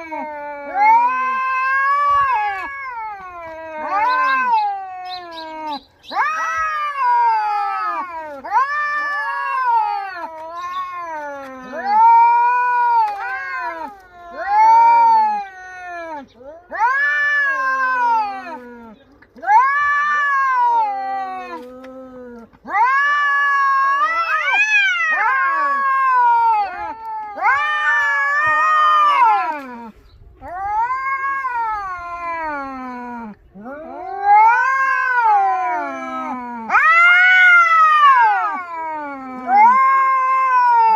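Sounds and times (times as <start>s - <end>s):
cats yowling in a fight: 0.0s - 40.9s.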